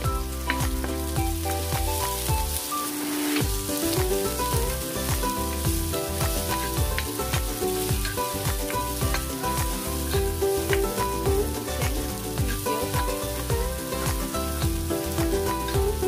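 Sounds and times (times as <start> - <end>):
onion sizzling in hot oil: 0.0 - 16.0.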